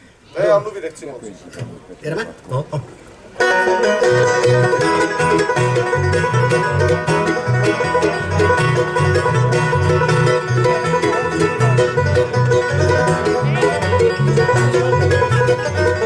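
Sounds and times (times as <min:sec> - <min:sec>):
bluegrass band playing: 0:00.0 - 0:16.0.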